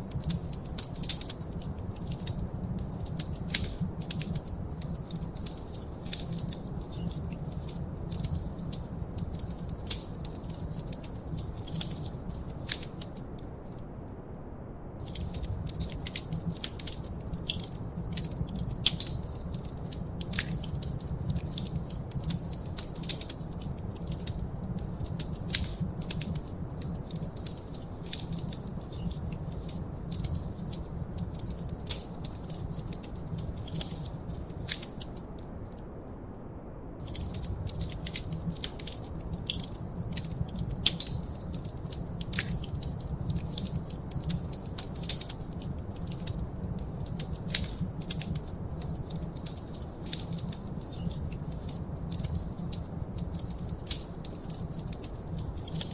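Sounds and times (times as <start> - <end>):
fire flames rumbling: 0.0 - 13.4, 15.0 - 35.7, 36.9 - 55.9
burning wood pops and snaps: 0.0 - 13.5, 15.0 - 35.7, 37.0 - 55.9.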